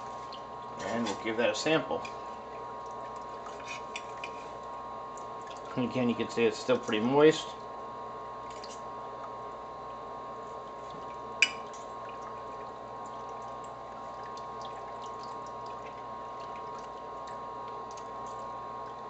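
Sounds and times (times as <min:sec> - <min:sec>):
appliance hum with whine: 0:00.0 - 0:19.0.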